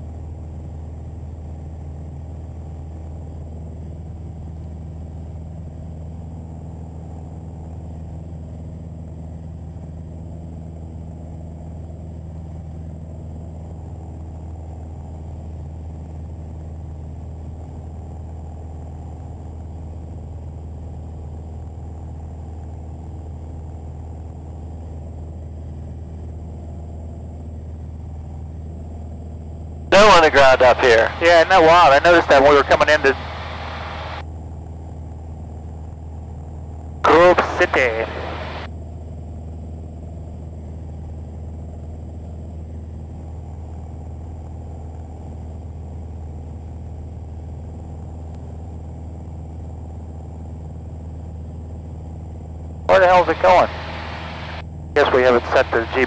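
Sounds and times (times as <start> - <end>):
airplane engine droning in cabin: 0.0 - 56.0.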